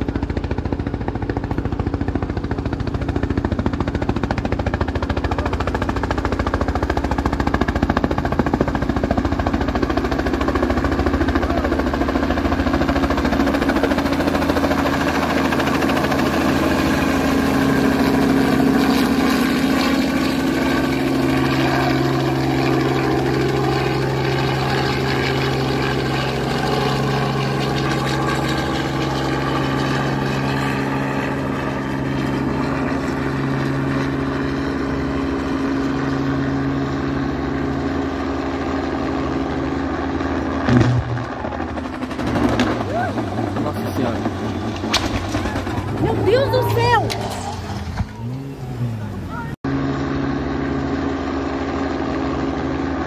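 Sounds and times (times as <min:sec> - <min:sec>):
helicopter droning: 0:00.0 - 0:53.0.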